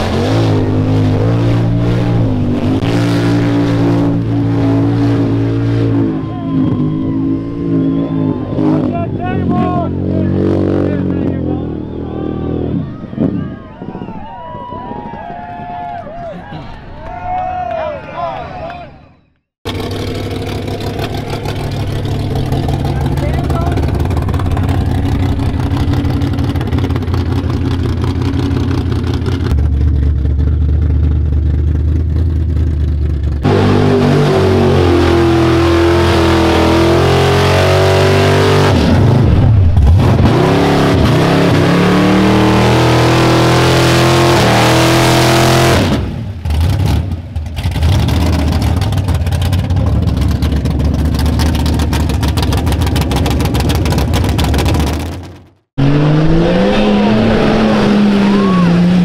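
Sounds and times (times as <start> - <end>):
truck engine revving: 0.0 - 13.6, 19.2 - 59.0.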